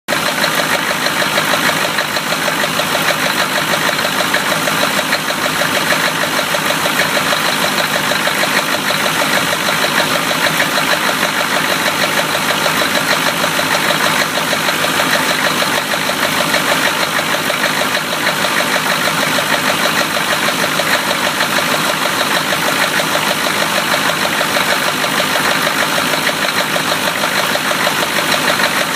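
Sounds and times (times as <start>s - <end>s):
car engine idling with rod knock: 0.1s - 28.9s.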